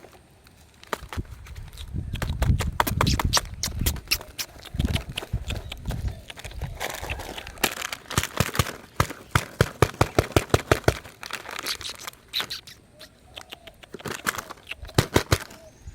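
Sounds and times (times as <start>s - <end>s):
foil wrapper crinkling: 0.0s - 12.7s, 13.8s - 15.6s.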